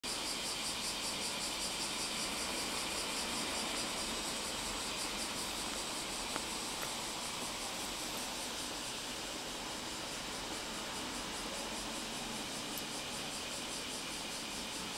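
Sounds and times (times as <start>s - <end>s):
steady background hiss: 0.0s - 14.9s.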